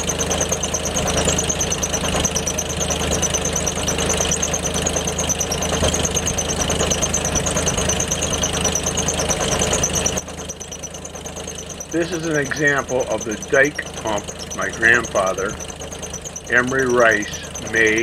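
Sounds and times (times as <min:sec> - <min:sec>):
fast high ticking: 0:00.0 - 0:18.0
tractor engine running: 0:00.0 - 0:18.0.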